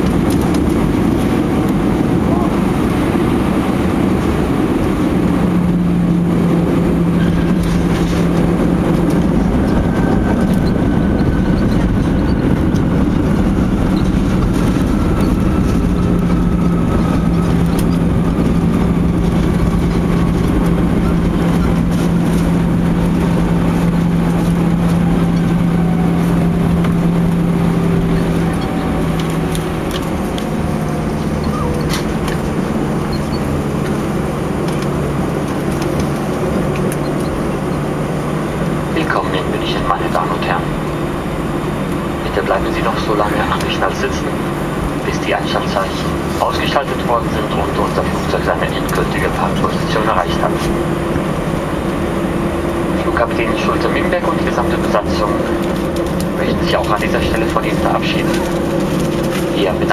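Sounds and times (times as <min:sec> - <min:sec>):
aircraft cabin engine and airflow rush: 0:00.0 - 0:59.9
engine whine falling in pitch: 0:00.0 - 0:59.9.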